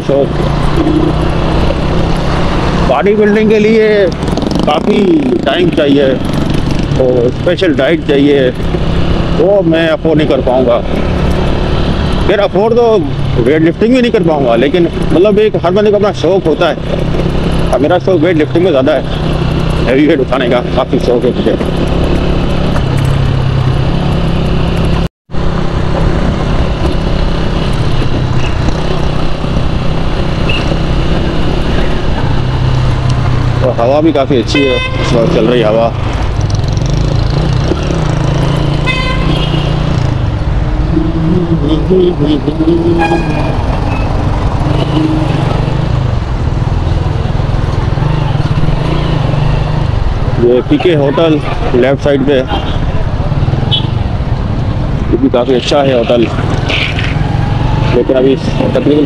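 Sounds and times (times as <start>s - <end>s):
motorcycle engine running: 0.0s - 59.0s
surrounding traffic: 0.0s - 59.0s.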